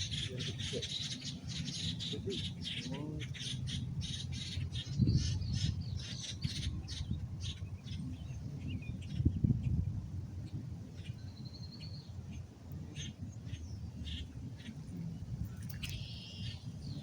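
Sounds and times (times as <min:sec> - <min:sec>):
birds chirping quickly: 0:00.0 - 0:17.0
wind rumble on microphone: 0:00.0 - 0:17.0.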